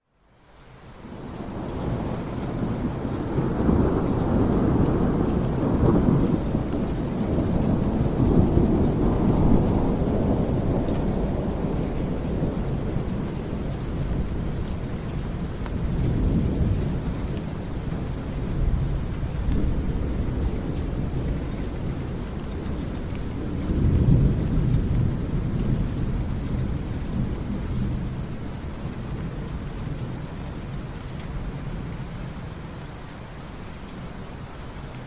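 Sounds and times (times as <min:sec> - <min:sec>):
steady rain: 0:00.0 - 0:35.0
rolling thunder: 0:01.1 - 0:32.4.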